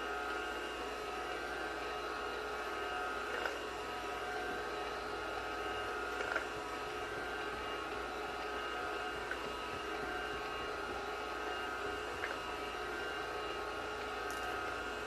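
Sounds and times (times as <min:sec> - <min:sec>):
vacuum cleaner whine: 0:00.0 - 0:15.0.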